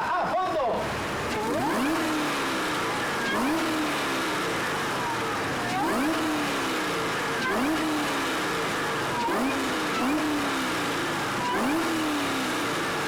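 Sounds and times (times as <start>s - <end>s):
car engine revving hard: 0.8s - 13.0s
supercharger whine: 0.8s - 13.0s.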